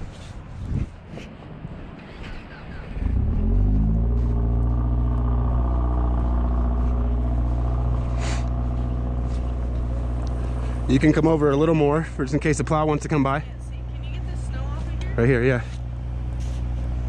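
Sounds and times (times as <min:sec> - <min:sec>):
engine starting and running: 0:02.1 - 0:17.0.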